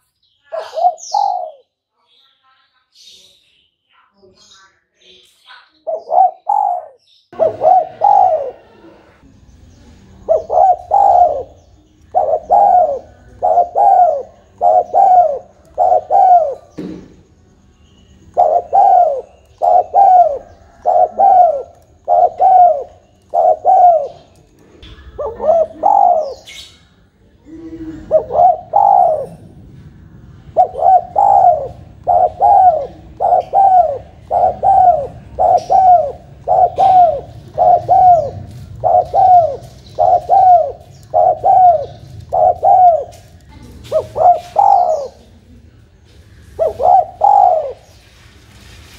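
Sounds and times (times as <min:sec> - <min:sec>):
dove cooing: 0:00.5 - 0:01.6, 0:05.8 - 0:09.2, 0:10.2 - 0:17.2, 0:18.2 - 0:26.8, 0:27.4 - 0:29.7, 0:30.4 - 0:47.9.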